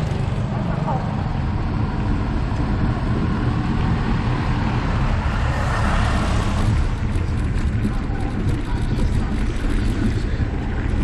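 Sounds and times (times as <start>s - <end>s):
road and traffic rumble: 0.0s - 11.0s.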